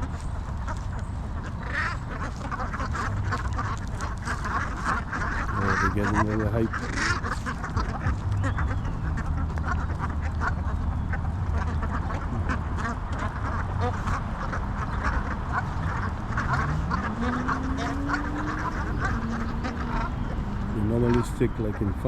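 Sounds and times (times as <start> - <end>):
ducks quacking: 0.0 - 22.0
steady low hum: 0.0 - 22.0.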